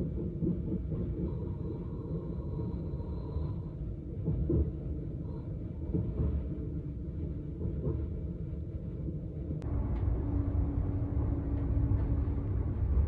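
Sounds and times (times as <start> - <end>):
train rumble from inside carriage: 0.0 - 13.0.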